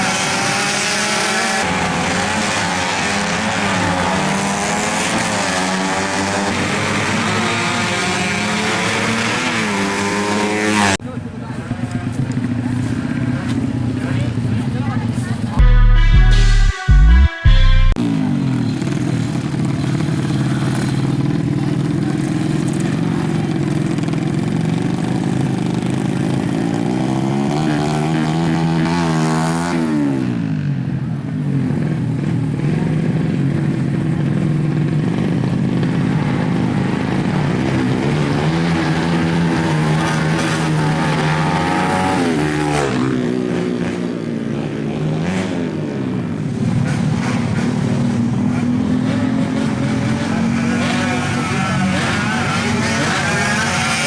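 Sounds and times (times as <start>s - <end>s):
motorcycle engines revving high: 0.0s - 54.0s.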